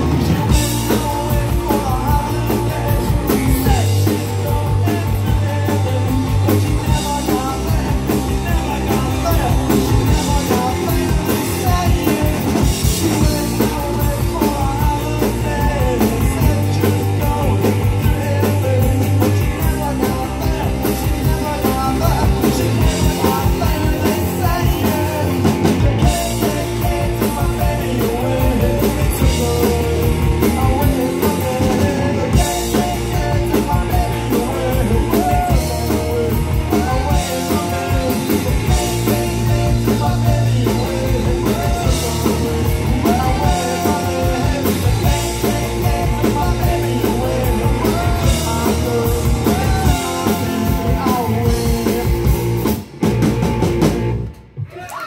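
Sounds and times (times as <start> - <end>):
person singing lead vocal: 0.0 - 52.8
punk rock band playing: 0.0 - 55.0.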